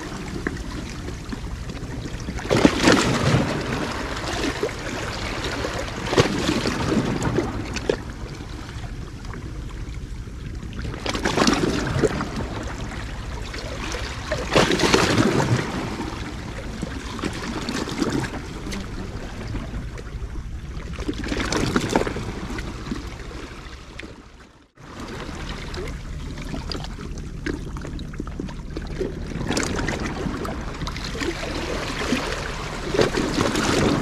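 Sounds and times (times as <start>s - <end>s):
waves splashing against rocks: 0.0s - 34.0s.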